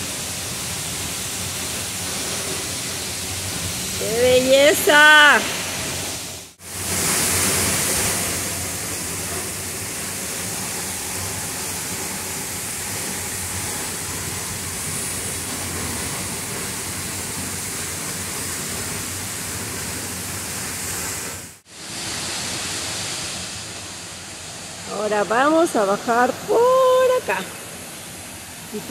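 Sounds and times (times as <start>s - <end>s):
waterfall rushing hiss: 0.0s - 28.9s.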